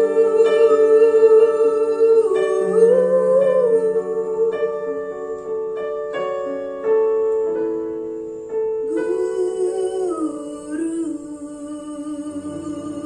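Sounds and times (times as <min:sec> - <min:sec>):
piano playing sustained chords: 0:00.0 - 0:13.0.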